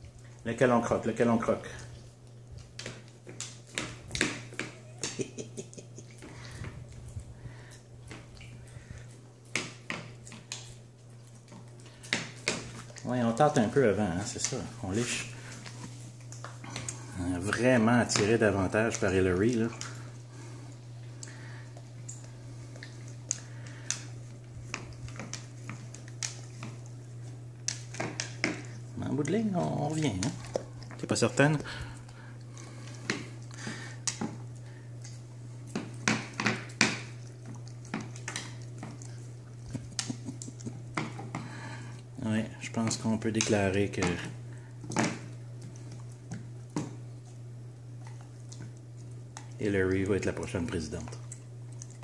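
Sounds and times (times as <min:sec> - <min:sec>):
dog sniffing and licking: 0:00.0 - 0:52.0
low steady hum: 0:00.0 - 0:52.0.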